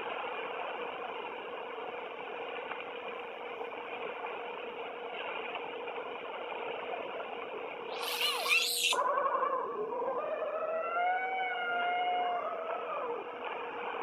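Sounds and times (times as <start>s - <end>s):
steady droning hum: 0.0s - 14.0s.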